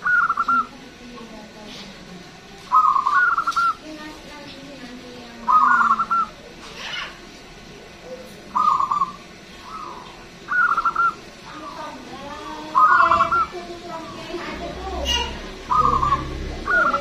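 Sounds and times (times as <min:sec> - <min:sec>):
dove cooing: 0:00.0 - 0:01.3, 0:02.7 - 0:04.1, 0:05.2 - 0:17.0.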